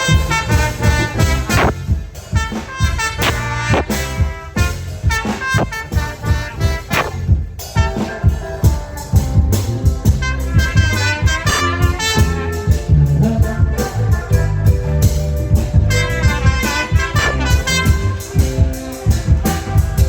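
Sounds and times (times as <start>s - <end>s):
bass line: 0.0s - 20.0s
steady drum beat: 0.0s - 20.0s.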